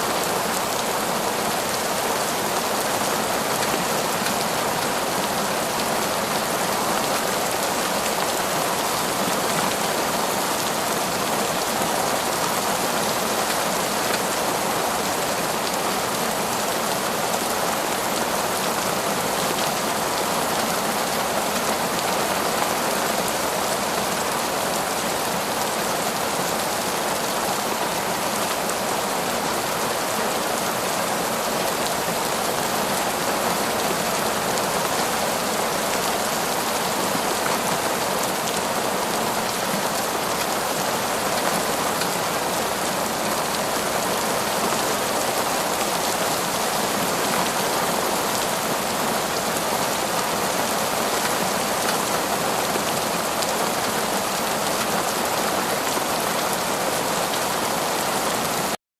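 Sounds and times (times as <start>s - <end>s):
heavy rain: 0.0s - 58.8s.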